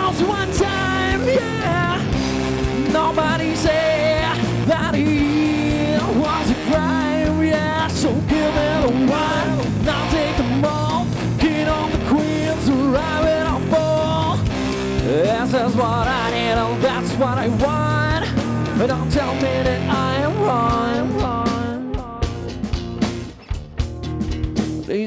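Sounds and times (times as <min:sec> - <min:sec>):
drum kit: 0:00.0 - 0:25.0
funk rock band playing: 0:00.0 - 0:25.0.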